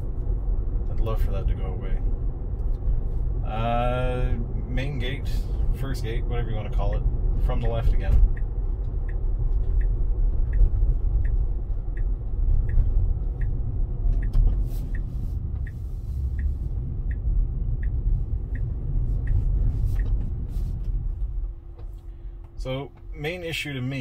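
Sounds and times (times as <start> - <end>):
road and tyre rumble: 0.0 - 24.0
turn signal ticking: 0.0 - 24.0.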